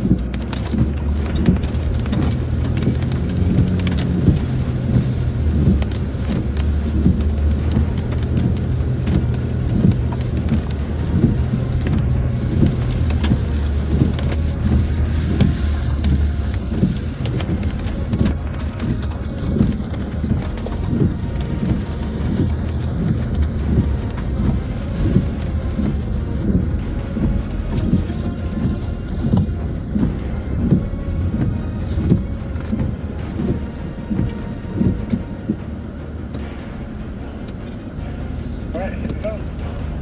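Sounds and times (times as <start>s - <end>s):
engine and road hum: 0.0s - 40.0s
rain hitting car roof: 0.0s - 40.0s.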